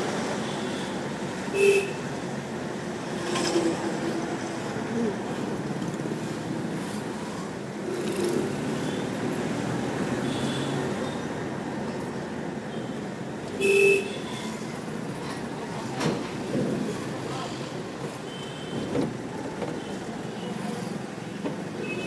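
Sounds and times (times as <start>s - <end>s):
car road noise: 0.0s - 22.0s
motorbikes in traffic: 0.0s - 22.0s.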